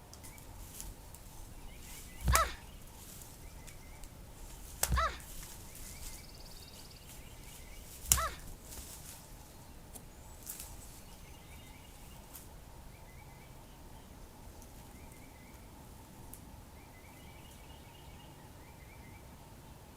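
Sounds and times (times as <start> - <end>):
small birds trilling and chirping: 0.1 - 19.9.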